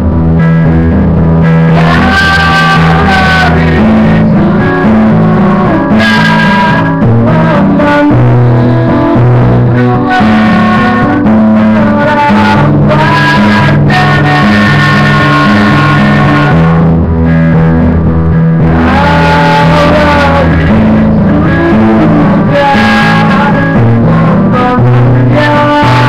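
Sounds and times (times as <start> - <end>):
electric guitar chords: 0.0 - 26.0
low bass notes: 0.0 - 26.0.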